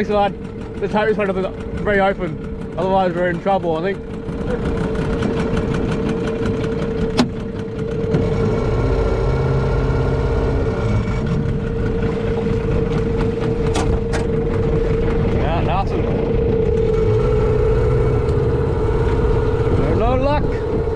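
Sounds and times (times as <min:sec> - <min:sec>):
outboard motor running: 0:00.0 - 0:20.9.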